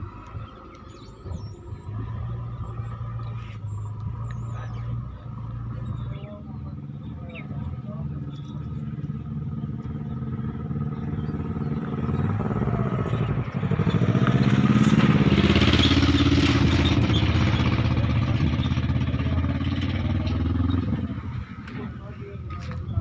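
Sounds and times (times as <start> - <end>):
diesel truck engine revving: 0.9 - 21.9.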